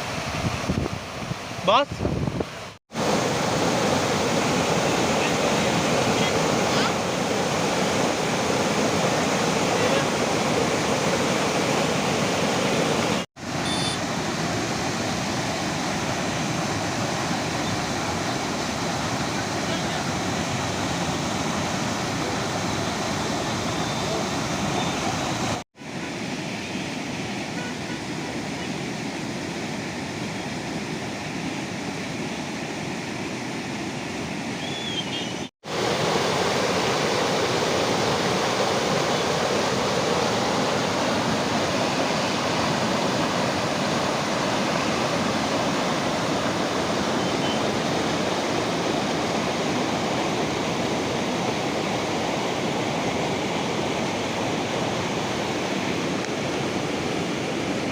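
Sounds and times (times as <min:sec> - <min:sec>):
water rushing over outflow: 0:00.0 - 0:34.6, 0:35.6 - 0:57.9.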